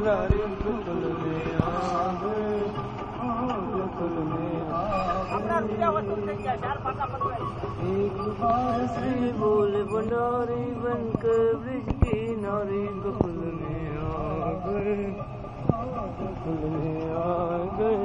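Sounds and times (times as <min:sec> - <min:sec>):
music: 0:00.0 - 0:18.0.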